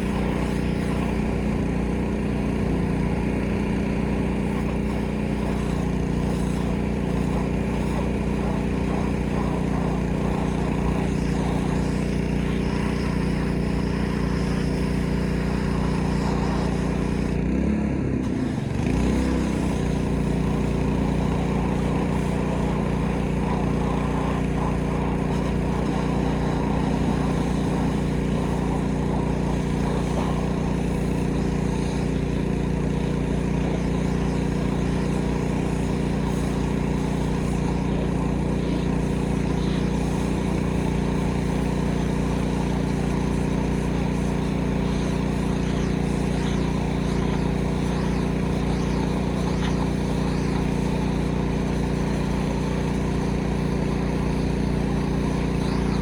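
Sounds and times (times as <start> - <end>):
pressure washer engine running: 0.0 - 56.0.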